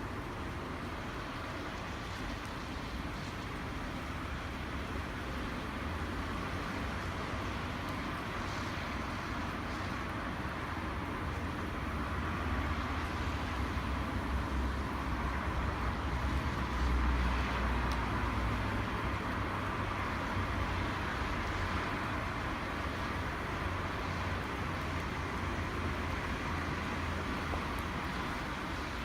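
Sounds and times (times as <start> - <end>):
campfire hissing: 0.0 - 29.0
fire crackle: 0.0 - 29.0.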